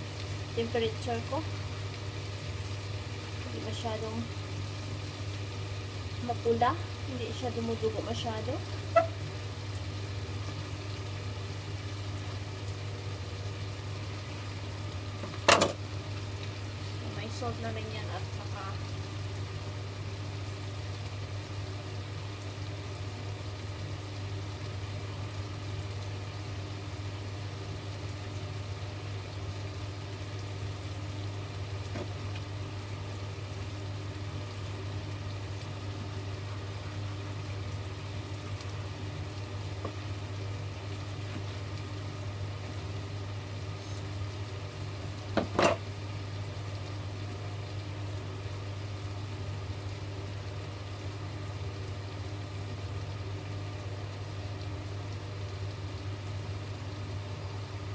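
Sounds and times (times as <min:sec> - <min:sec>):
low hum with faint hiss: 0:00.0 - 0:57.9.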